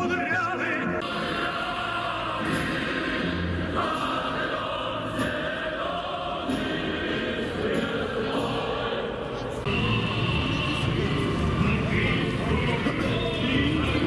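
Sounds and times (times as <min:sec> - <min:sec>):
choir singing: 0:01.0 - 0:14.0.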